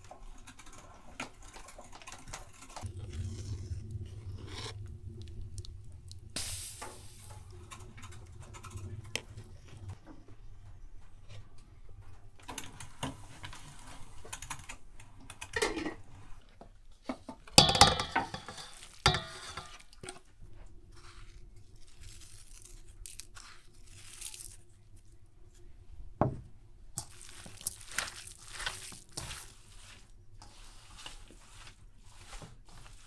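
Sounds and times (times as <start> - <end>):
rustling and handling noises: 0.0 - 33.0.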